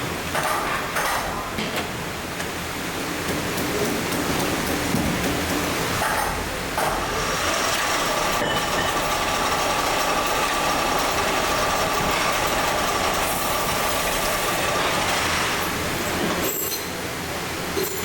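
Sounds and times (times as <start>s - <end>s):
machinery running with high whine: 2.0s - 18.0s.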